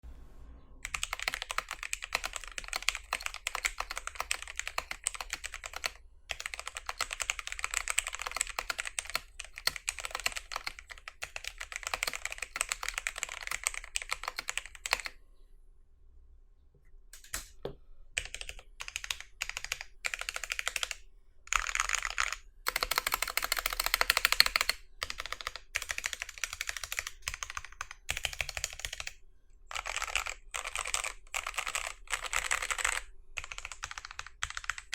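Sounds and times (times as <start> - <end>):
mechanical keyboard typing: 0.8 - 15.2, 18.2 - 34.9.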